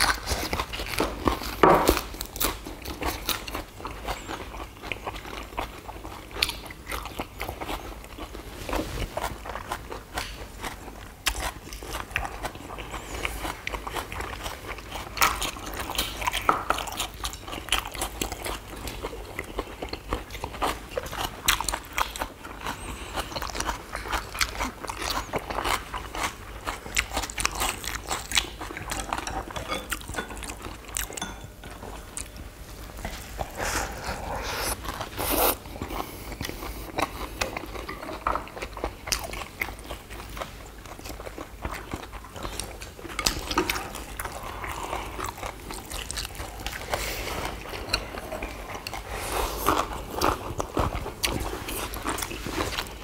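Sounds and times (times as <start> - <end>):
people chewing and crunching: 0.0 - 53.0.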